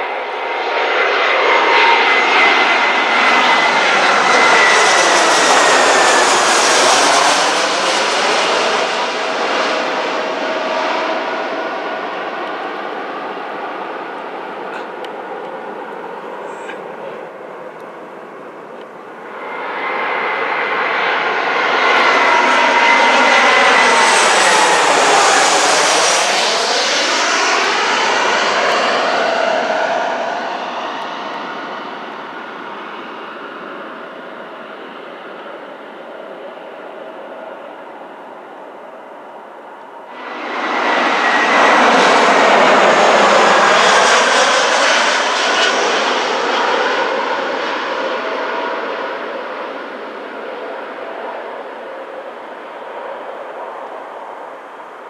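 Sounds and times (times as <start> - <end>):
jet airliner passing overhead: 0.0 - 55.0.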